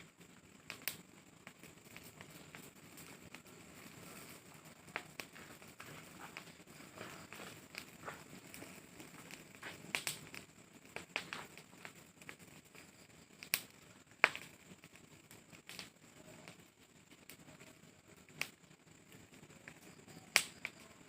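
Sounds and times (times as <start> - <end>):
faint fire hiss: 0.0 - 21.0
fire crackling and popping: 0.0 - 21.0.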